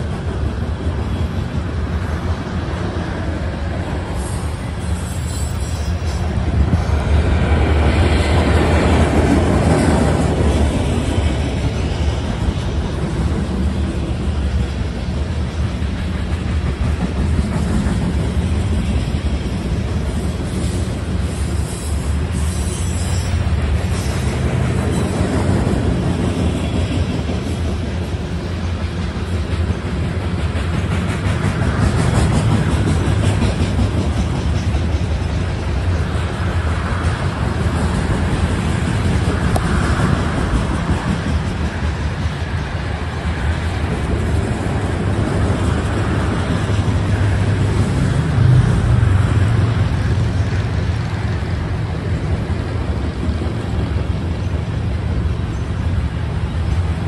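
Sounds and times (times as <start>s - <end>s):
steel wheels running on rails: 0.0s - 57.0s.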